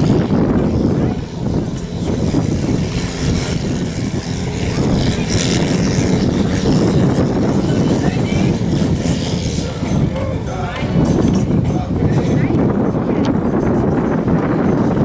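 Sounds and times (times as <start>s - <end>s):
tractor engine under full load: 0.0s - 15.0s.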